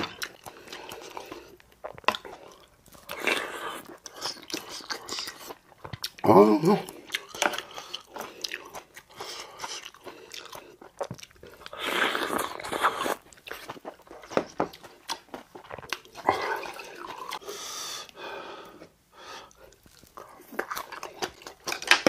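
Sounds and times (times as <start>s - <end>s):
person chewing and crunching food: 0.0s - 22.0s.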